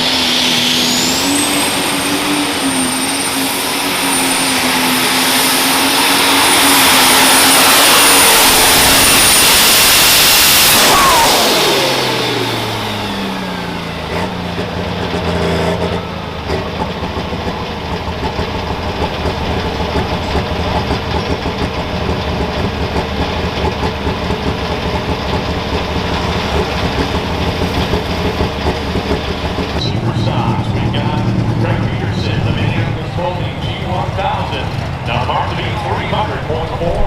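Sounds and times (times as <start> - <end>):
tractor engine winding down to idle: 0.0 - 37.0.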